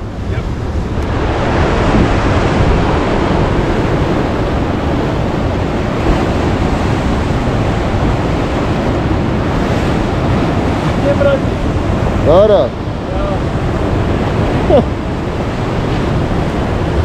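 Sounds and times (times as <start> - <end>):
surf breaking over rocks: 0.0 - 17.0
wind rumbling on microphone: 0.0 - 17.0.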